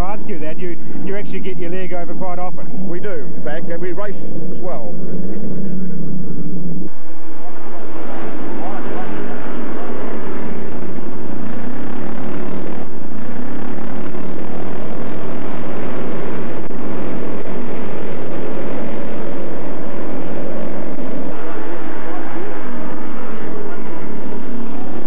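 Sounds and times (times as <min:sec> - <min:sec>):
racing motorcycle engines droning: 0:00.0 - 0:25.0.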